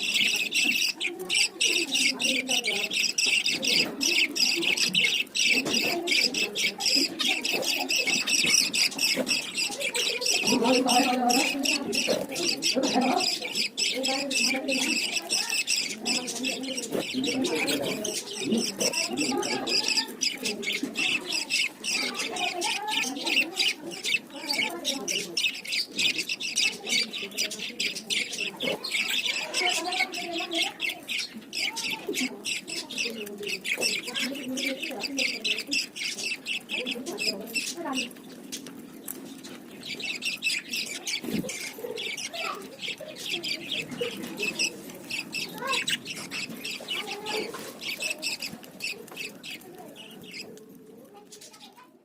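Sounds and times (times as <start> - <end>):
small birds chirping and chattering: 0.0 - 52.0.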